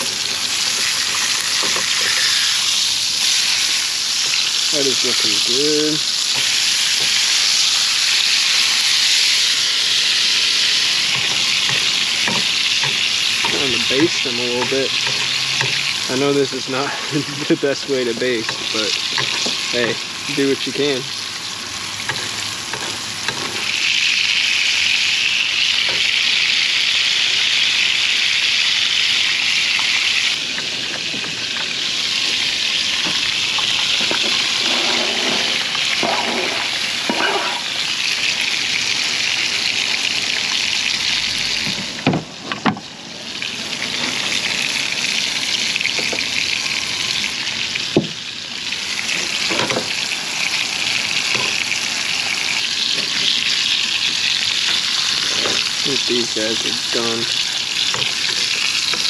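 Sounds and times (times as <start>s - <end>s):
burgers sizzling in a pan: 0.0s - 59.0s.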